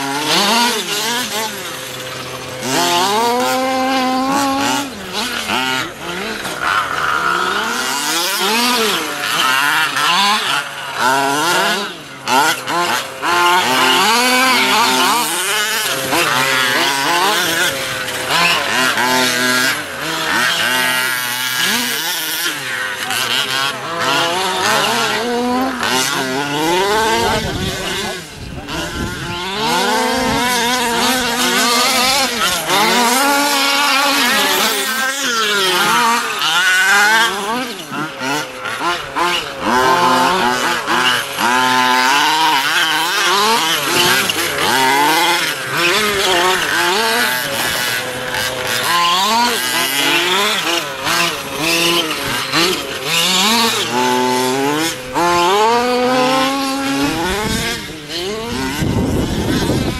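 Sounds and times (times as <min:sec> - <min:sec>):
rc car engines revving: 0:00.0 - 0:59.9.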